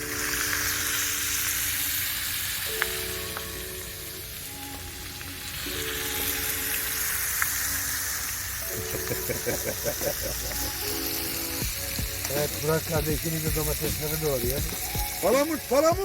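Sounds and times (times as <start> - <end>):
fish frying in oil: 0.0 - 16.0.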